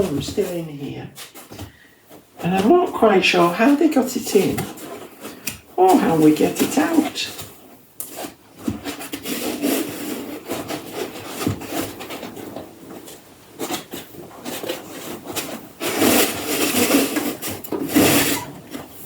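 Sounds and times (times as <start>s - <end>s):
foam scraping against printer: 0.0s - 19.0s.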